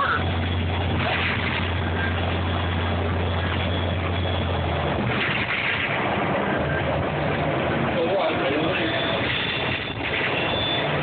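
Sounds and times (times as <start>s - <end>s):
bus drivetrain drone: 0.0s - 11.0s
road and wind noise: 0.0s - 11.0s.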